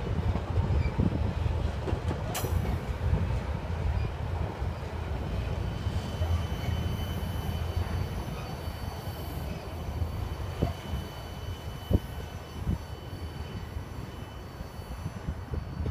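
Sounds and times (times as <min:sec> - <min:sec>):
freight train rolling rumble: 0:00.0 - 0:15.9.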